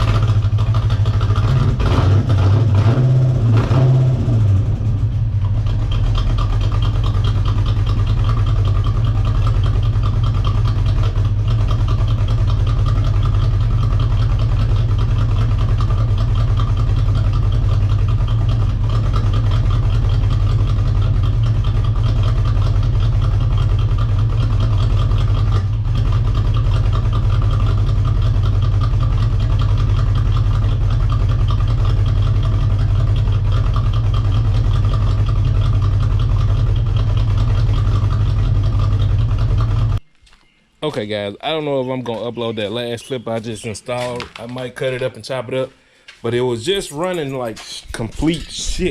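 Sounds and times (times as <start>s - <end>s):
car engine idling roughly: 0.0s - 40.0s.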